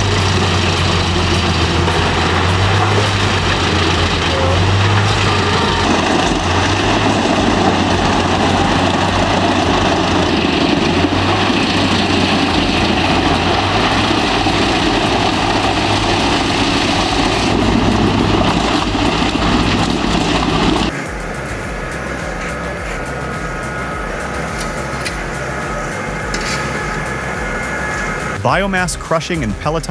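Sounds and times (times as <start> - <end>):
wood chipper running: 0.0 - 28.5
quieter machine hum: 0.0 - 28.6.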